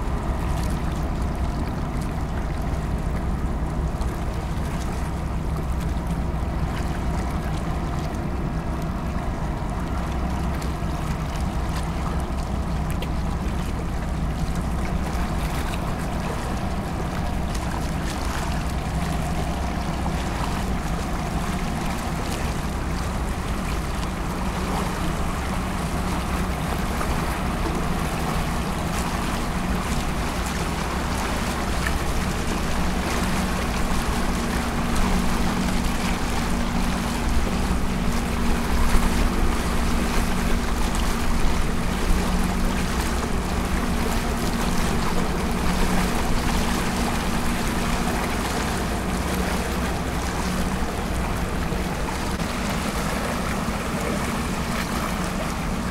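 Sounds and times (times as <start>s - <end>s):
ship engines droning: 0.0s - 55.9s
water washing along hull: 0.0s - 55.9s.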